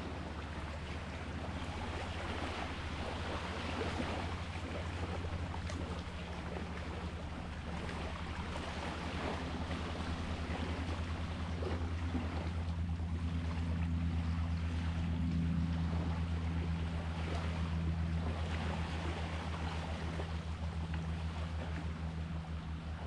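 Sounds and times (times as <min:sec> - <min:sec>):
boat engine droning: 0:00.0 - 0:23.0
sea water washing: 0:00.0 - 0:23.0.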